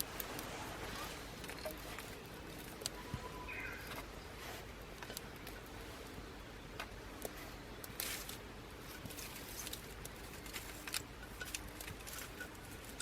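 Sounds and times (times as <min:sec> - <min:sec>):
low steady hiss: 0:00.0 - 0:13.0
wood fire crackling and popping: 0:01.2 - 0:13.0.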